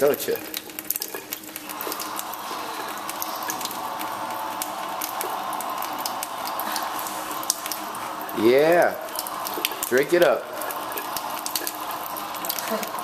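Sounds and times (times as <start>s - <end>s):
water trickling into steel sink: 0.0s - 13.0s.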